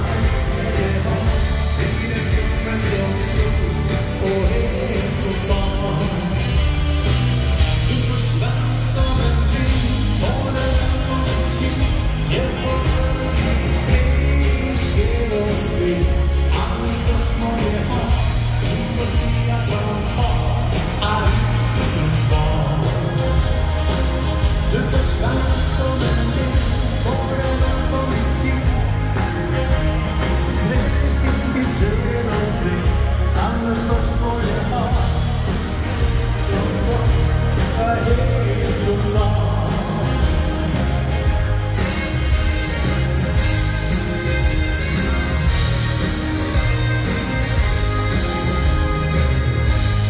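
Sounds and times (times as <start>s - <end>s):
person singing: 0.0s - 6.8s, 7.6s - 50.0s
bass line: 0.0s - 50.0s
drums with cymbals: 0.0s - 50.0s
live band playing: 0.0s - 50.0s.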